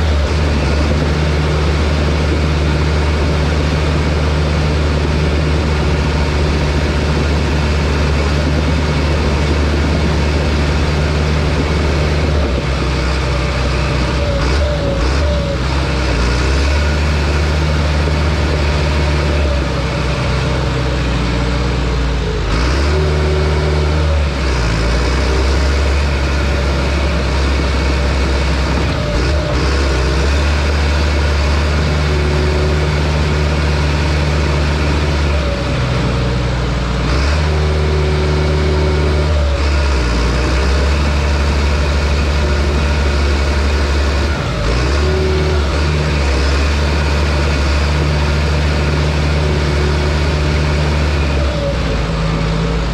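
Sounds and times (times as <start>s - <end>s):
diesel engine running hard: 0.0s - 52.9s.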